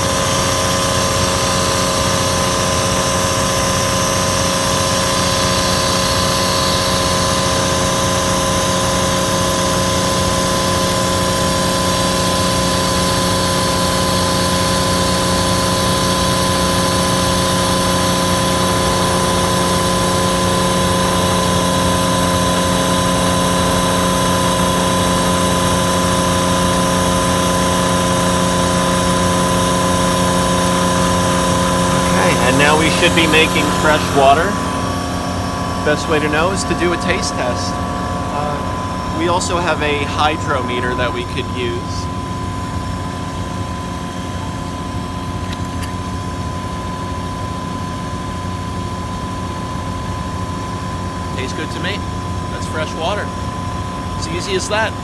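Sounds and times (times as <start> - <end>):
watermaker motor and pump humming: 0.0 - 55.0.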